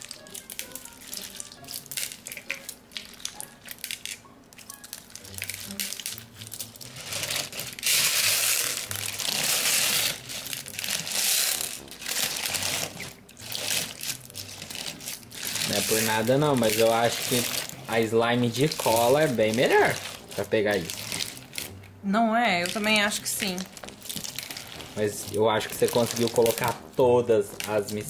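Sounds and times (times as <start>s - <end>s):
plastic beads clicking and rattling: 0.0s - 21.8s, 22.6s - 26.9s
slime crunching and squishing: 0.0s - 21.8s, 22.6s - 28.0s.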